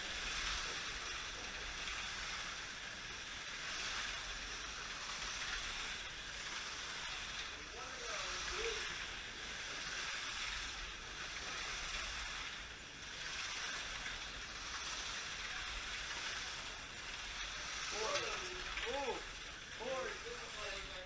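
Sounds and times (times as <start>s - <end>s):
slot cars whirring: 0.0s - 21.0s.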